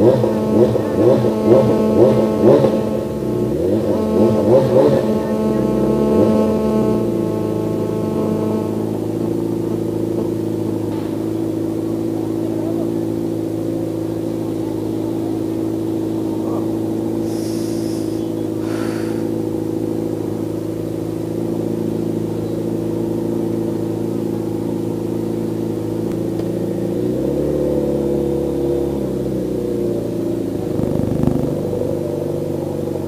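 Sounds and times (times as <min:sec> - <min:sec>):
deeper engine hum: 0:00.0 - 0:33.0
motorcycle engine idling: 0:00.0 - 0:33.0.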